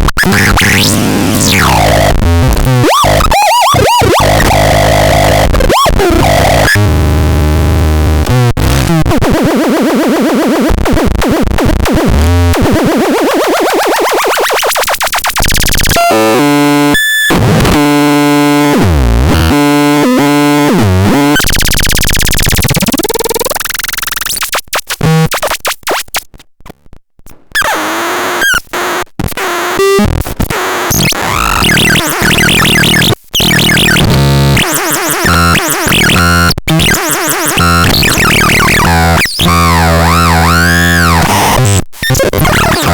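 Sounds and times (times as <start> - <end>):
harsh electronic synth noise: 0.0 - 24.6, 27.6 - 42.9.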